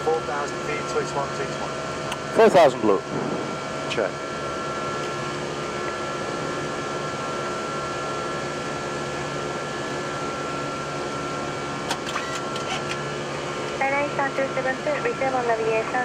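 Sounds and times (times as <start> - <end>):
airflow and air conditioning rush: 0.0 - 16.0
low steady hum: 0.0 - 16.0.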